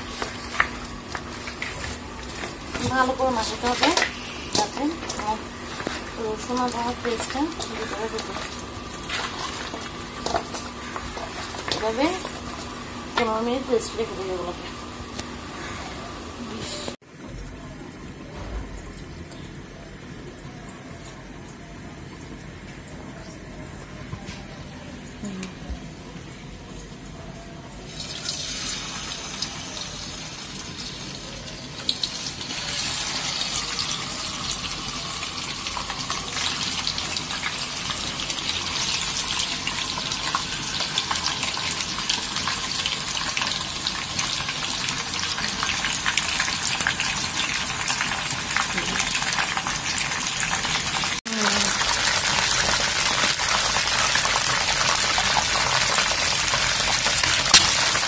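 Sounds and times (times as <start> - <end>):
chicken sizzling in hot oil: 0.0 - 17.0, 27.8 - 58.0.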